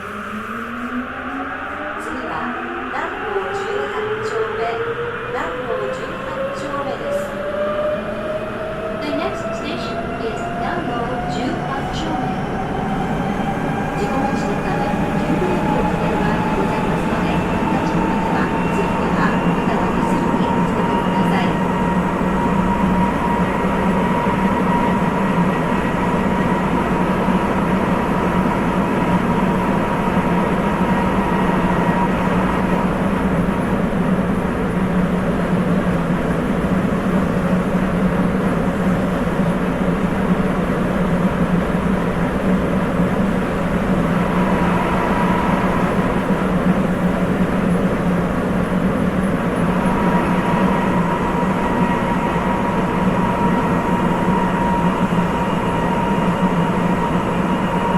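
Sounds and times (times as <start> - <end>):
train running rumble: 0.0 - 57.9.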